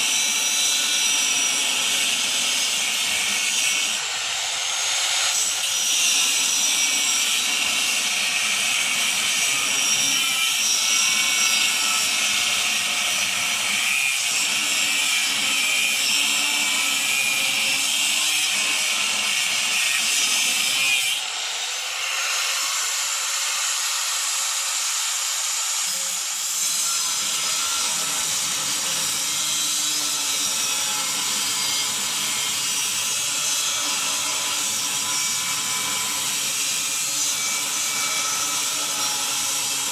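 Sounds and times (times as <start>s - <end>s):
power grinder grinding steel: 0.0s - 39.9s.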